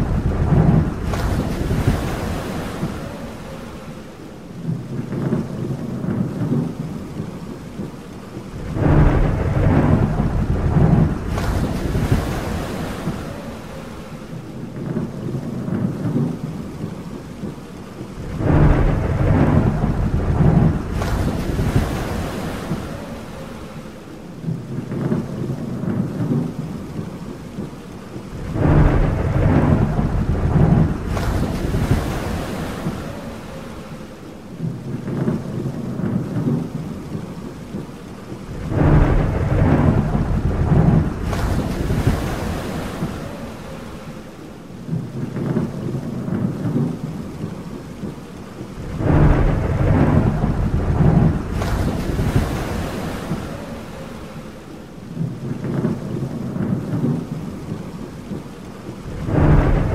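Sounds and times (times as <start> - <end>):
rolling thunder crackling: 0.0 - 59.9
steady rain: 0.0 - 59.9.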